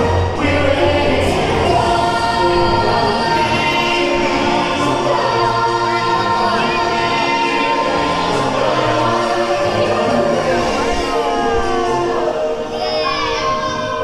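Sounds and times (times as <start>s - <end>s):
group of voices singing: 0.0s - 14.0s
musical accompaniment: 0.0s - 14.0s.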